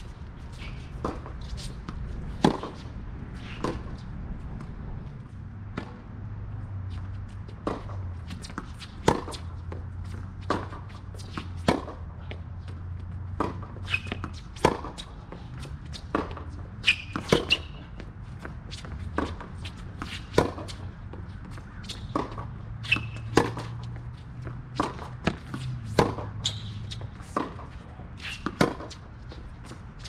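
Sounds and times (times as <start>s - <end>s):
racket hitting tennis ball: 0.0s - 4.8s, 5.6s - 6.0s, 7.3s - 30.0s
tennis ball bouncing: 0.0s - 30.0s.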